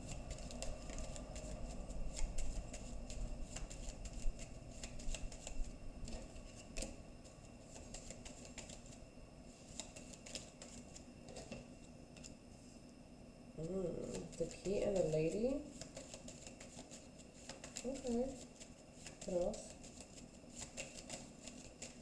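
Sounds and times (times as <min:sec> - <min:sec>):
cards being shuffled: 0:00.0 - 0:12.4, 0:13.6 - 0:22.0.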